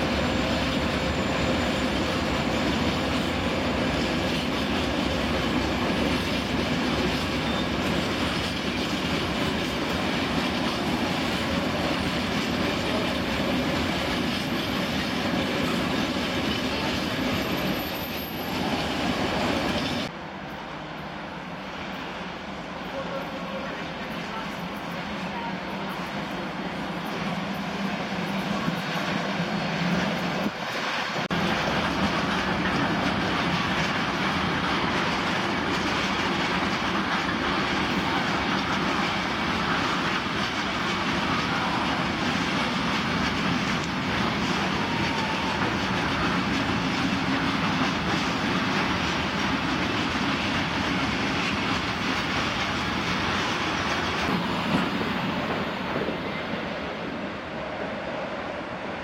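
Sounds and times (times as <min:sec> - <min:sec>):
train wheels clattering over rails: 0:00.0 - 0:20.1, 0:26.7 - 0:57.2.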